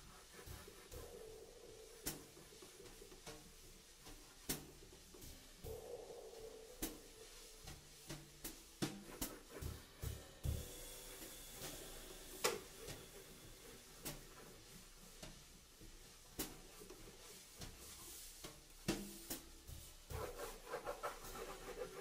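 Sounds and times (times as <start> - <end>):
snare and cymbal hits: 0.0 - 22.0.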